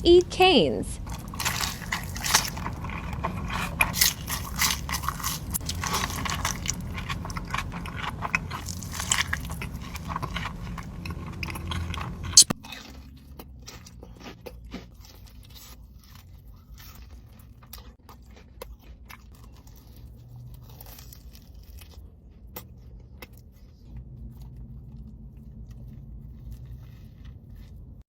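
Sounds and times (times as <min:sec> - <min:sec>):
crunchy bites of fried chicken: 0:01.0 - 0:28.0
quiet chewing: 0:01.0 - 0:28.0.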